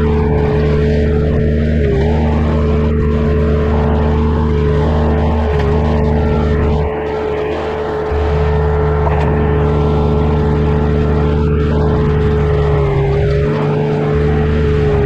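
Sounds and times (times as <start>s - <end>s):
diesel engine drone: 0.0s - 15.0s
high whine: 0.0s - 15.0s.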